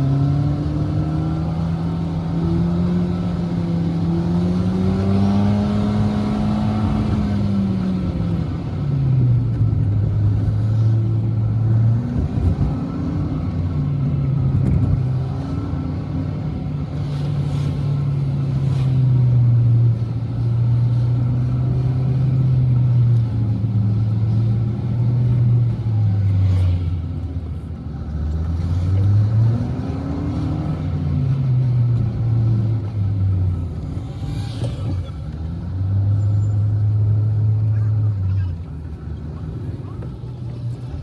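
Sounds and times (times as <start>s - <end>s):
car engine hum from cabin: 0.0s - 41.0s.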